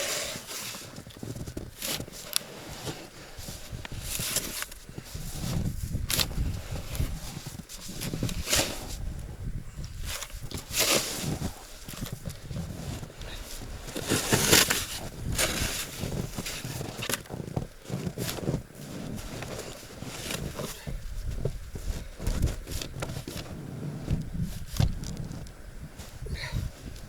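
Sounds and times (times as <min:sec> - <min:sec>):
shovel scraping through snow: 0:00.0 - 0:09.0, 0:10.2 - 0:25.4.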